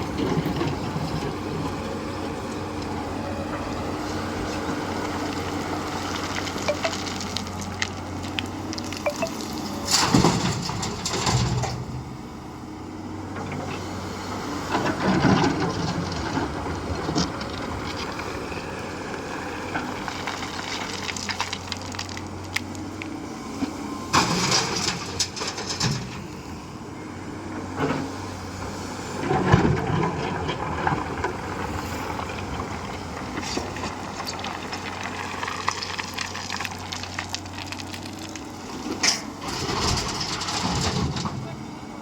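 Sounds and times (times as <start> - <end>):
engine humming: 0.0 - 42.0.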